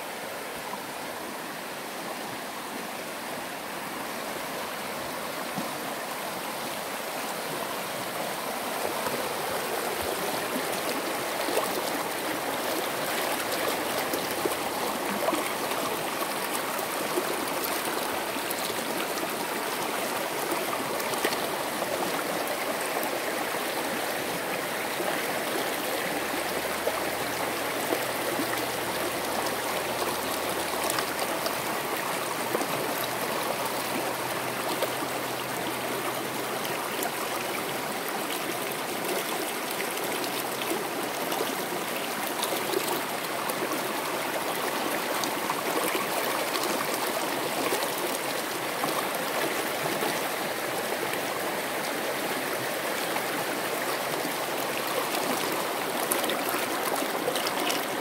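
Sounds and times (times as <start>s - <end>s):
creek rushing over rocks: 0.0s - 58.0s.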